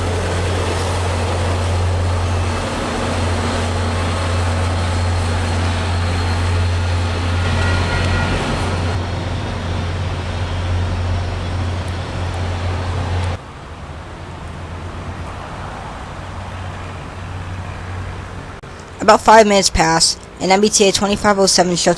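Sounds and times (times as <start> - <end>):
train rumbling: 0.0 - 19.3
diesel train engine drone: 0.0 - 21.9.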